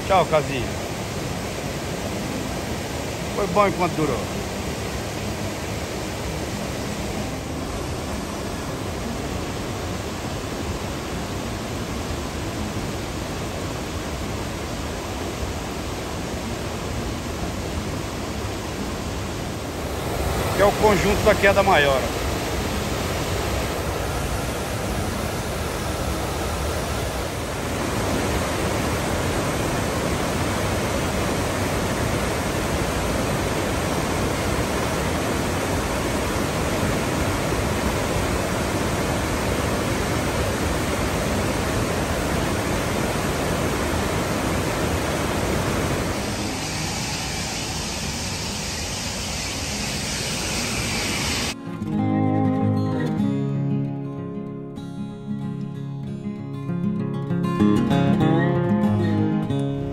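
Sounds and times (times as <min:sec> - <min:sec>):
waterfall rushing: 0:00.0 - 0:51.6.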